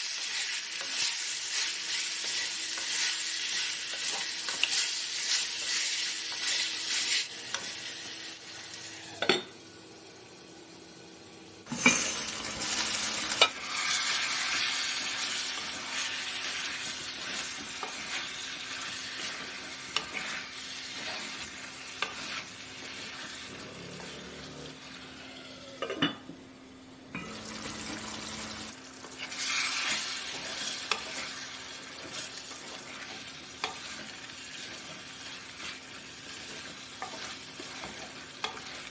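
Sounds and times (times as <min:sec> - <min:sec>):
chicken sizzling in a pan: 0:00.0 - 0:26.1, 0:27.1 - 0:38.9.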